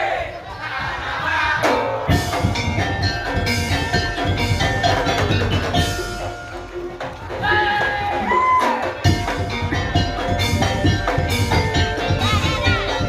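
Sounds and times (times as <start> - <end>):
drums beating: 0.1 - 13.0
ringing metal percussion: 1.7 - 13.0.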